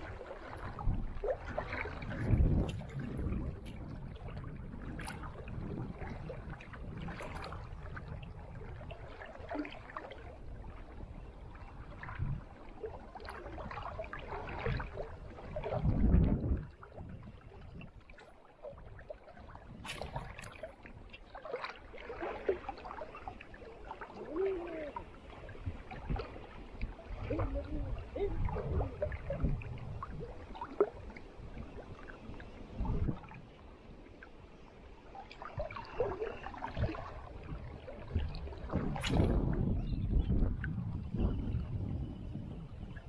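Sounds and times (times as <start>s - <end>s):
river water flowing and gurgling: 0.0s - 43.0s.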